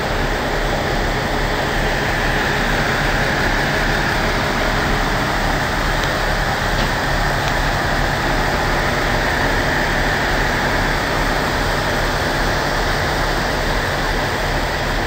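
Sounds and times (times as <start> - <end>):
diesel railcar engine idling: 0.0 - 15.0
steady hiss: 0.0 - 15.0.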